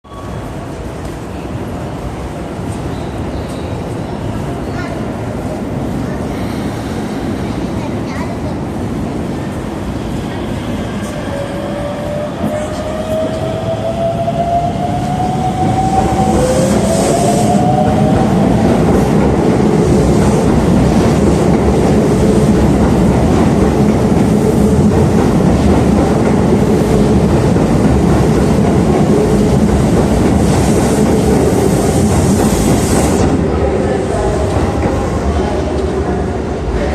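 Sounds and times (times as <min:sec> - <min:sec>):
train wheels rumbling on track: 0:00.3 - 0:36.9.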